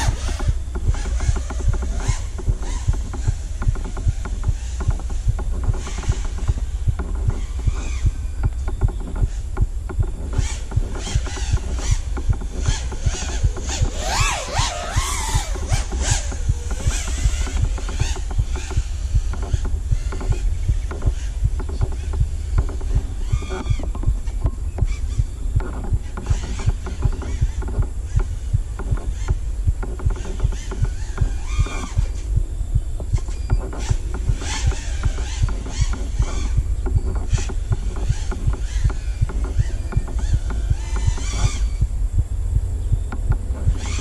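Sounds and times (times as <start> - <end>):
drone motors whining: 0.0 - 44.0
low pulsing throb: 0.0 - 44.0.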